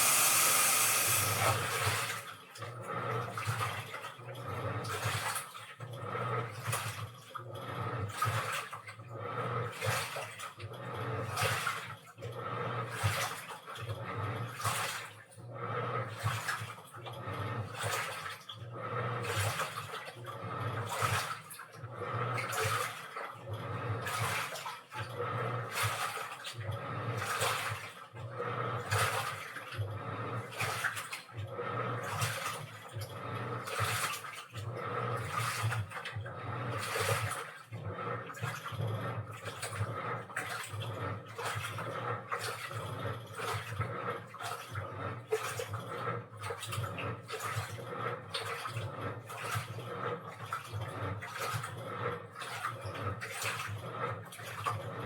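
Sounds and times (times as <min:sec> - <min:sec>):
washing machine motor hum: 0:00.0 - 0:55.0
water sloshing in drum: 0:00.0 - 0:55.0.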